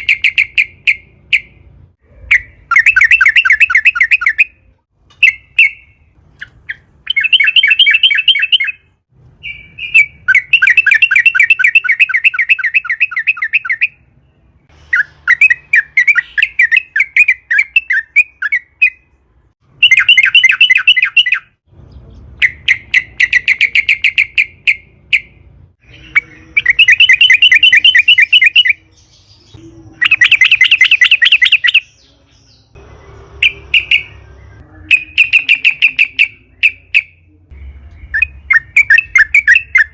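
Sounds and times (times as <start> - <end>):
bird singing rolling phrases: 0.0 - 39.9.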